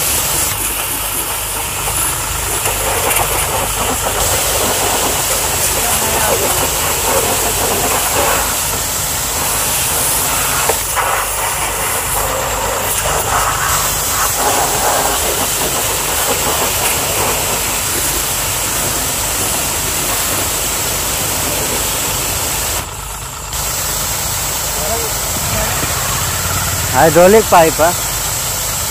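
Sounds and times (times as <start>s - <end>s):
pressure washer jet spraying water: 0.0s - 28.9s
washer motor and pump running: 0.0s - 28.9s.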